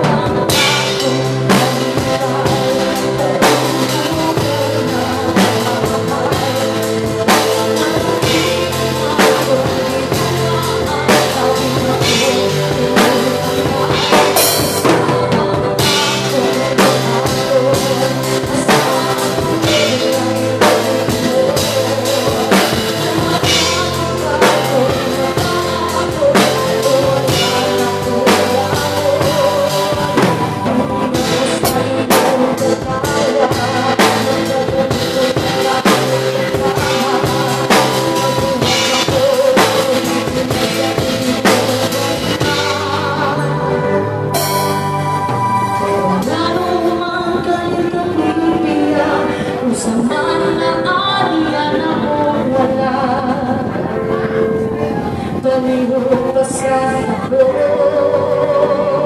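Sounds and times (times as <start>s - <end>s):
drum kit beat: 0.0s - 48.3s
live band music: 0.0s - 59.0s.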